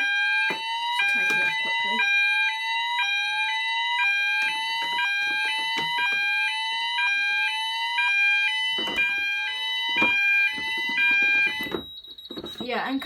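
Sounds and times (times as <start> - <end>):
fire alarm sounders: 0.0 - 13.0.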